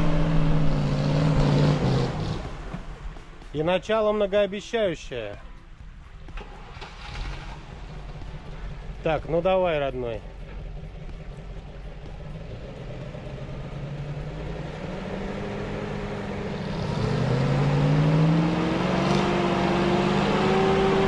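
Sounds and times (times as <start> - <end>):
truck engine working hard: 0.0 - 3.2, 6.1 - 21.0.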